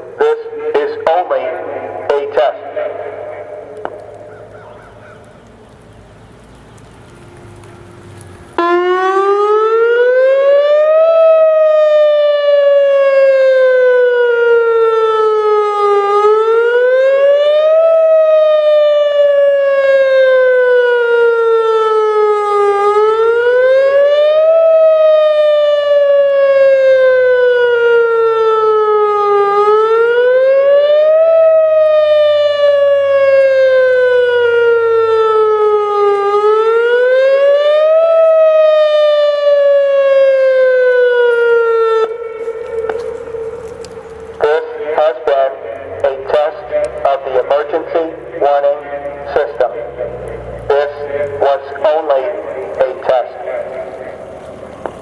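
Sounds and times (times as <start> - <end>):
outdoor warning siren wailing: 0.0 - 55.0.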